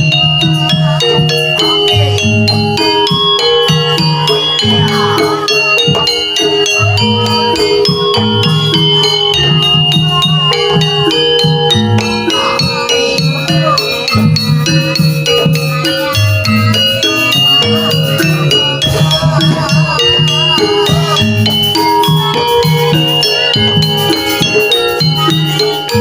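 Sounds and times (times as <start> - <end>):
gamelan metal keys ringing: 0.0 - 26.0
rattling percussion: 0.0 - 26.0
regular drumbeat: 0.0 - 26.0
wavering higher melody: 0.0 - 26.0.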